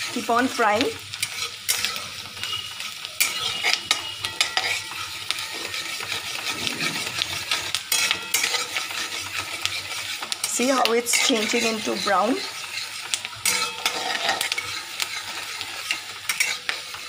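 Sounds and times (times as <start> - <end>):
onions sizzling in oil: 0.0 - 17.0
spatula scraping a pan: 0.0 - 17.0.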